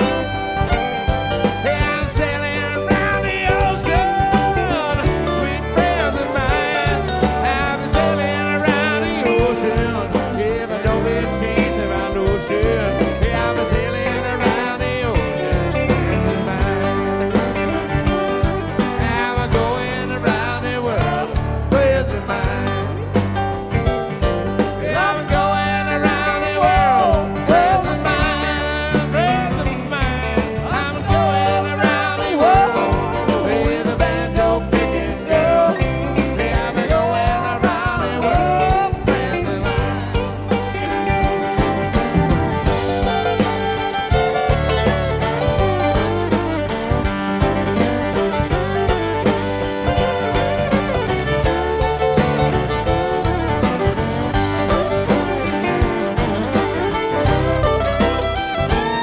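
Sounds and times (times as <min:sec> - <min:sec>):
song with singing and band: 0:00.0 - 0:59.0.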